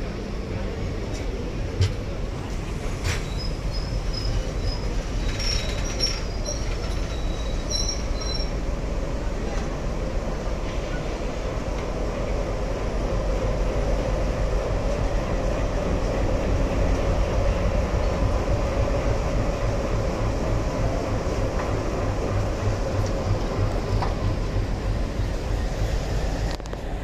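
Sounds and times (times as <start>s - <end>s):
train coaches rumbling and rattling: 0.0s - 27.0s.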